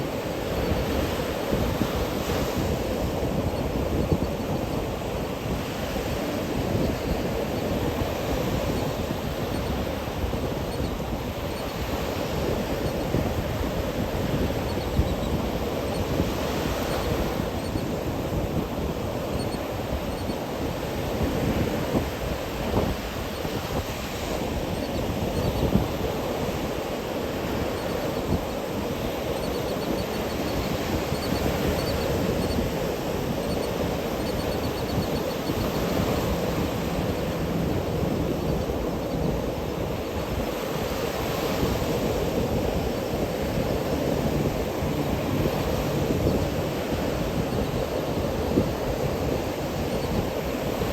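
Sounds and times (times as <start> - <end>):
ocean surf on sandy beach: 0.0 - 50.9
wind on microphone: 0.0 - 50.9.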